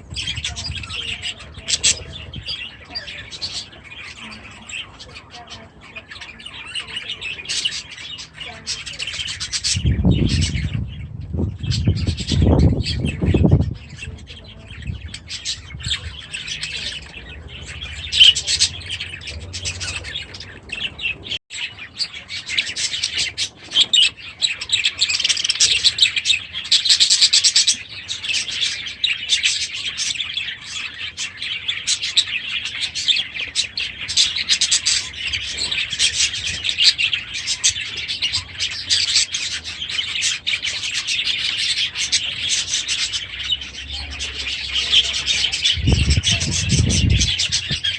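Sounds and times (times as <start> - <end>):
budgerigars chattering and chirping: 0.0 - 47.9.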